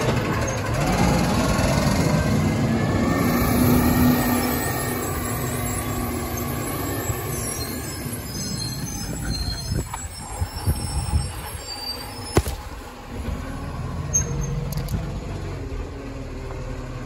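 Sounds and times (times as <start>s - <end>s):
brakes squealing: 0.0s - 17.0s
garbage truck engine: 0.0s - 17.0s.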